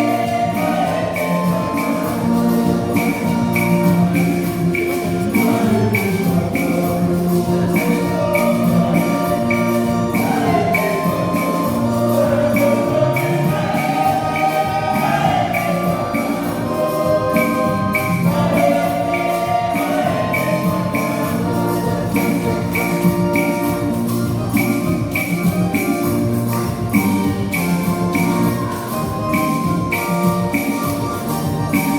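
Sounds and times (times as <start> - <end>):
held keyboard chords: 0.0 - 31.9
percussion strikes: 0.0 - 31.9
wavering melody line: 0.0 - 31.9.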